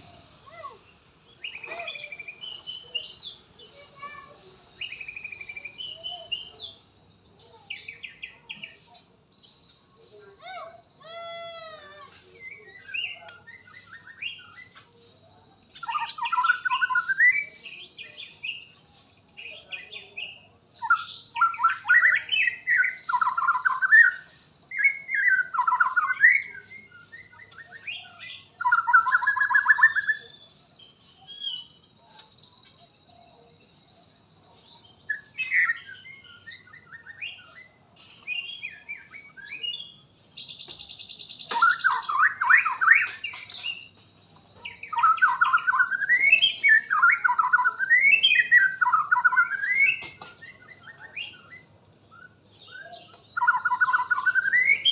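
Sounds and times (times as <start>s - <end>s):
songbird singing whistled phrases: 0.0s - 54.9s.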